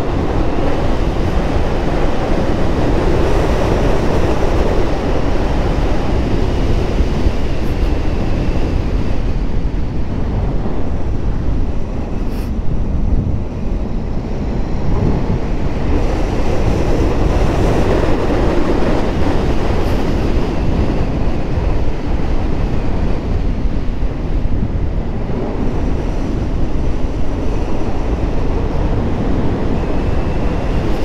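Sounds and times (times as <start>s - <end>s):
wind rush over microphone: 0.0s - 31.0s.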